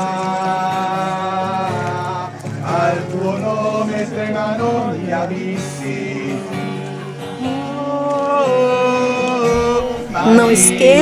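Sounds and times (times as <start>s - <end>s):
acoustic guitar: 0.0s - 11.0s
voices singing a hymn: 0.0s - 11.0s.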